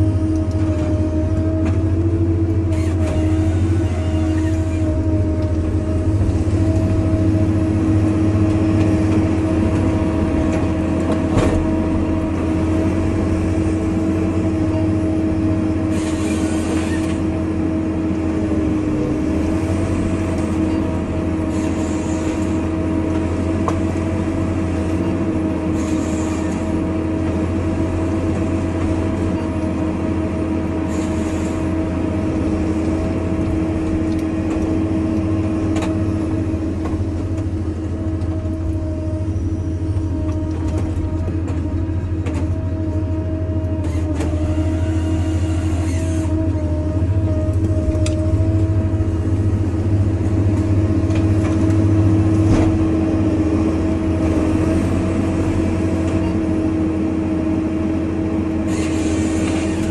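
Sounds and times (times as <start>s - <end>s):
high hydraulic whine: 0.0s - 29.7s, 30.6s - 59.9s
diesel engine drone: 0.0s - 59.9s.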